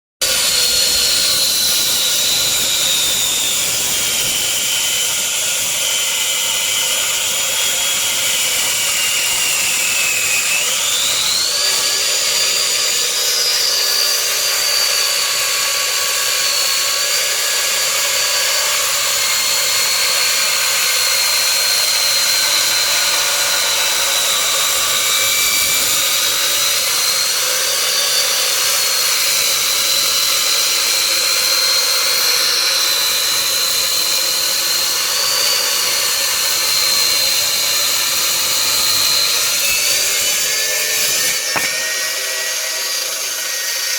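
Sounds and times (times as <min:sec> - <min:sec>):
concrete saw grinding and whining: 0:00.2 - 0:43.9.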